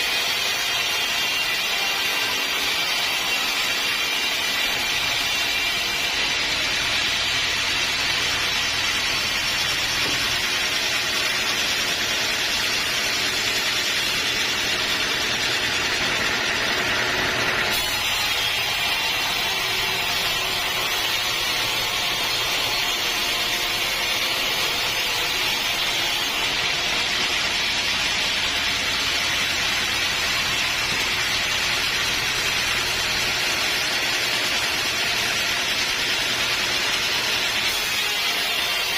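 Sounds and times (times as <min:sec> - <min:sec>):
saw cutting through log: 0:00.0 - 0:38.9.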